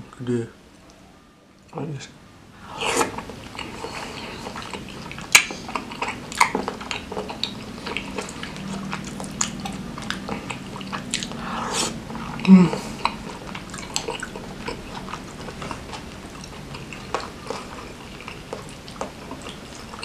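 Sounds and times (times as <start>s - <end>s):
wet chewing with smacking: 2.8s - 20.0s.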